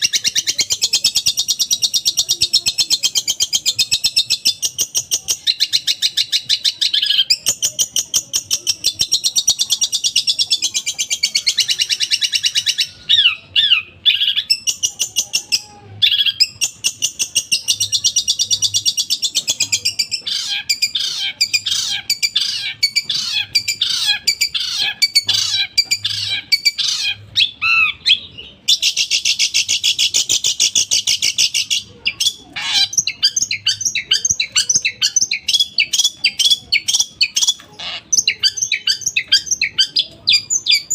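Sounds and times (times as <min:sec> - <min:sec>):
shrike chattering song: 0:00.0 - 0:40.9.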